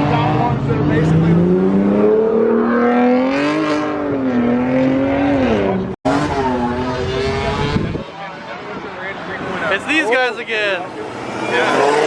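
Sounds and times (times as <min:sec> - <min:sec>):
car engine accelerating: 0:00.0 - 0:09.8.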